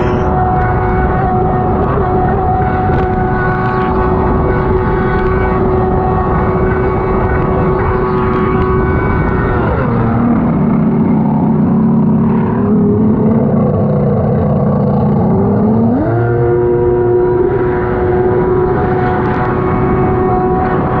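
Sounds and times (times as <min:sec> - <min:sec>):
jet ski engine running: 0:00.0 - 0:21.0.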